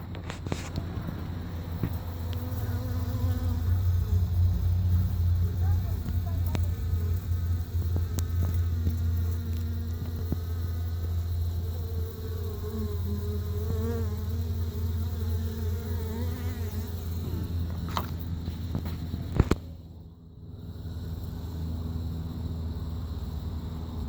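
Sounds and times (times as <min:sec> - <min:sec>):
single bee buzzing past: 0:00.0 - 0:19.7
bees droning: 0:00.0 - 0:24.0.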